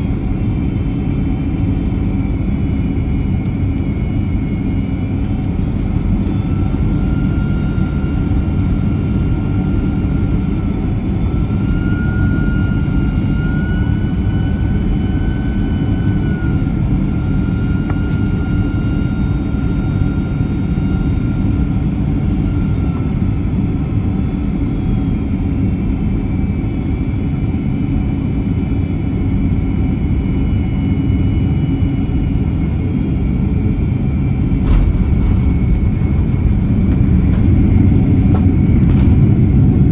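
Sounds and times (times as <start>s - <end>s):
aircraft cabin engine rumble: 0.0s - 39.9s
faint whine: 0.0s - 39.9s.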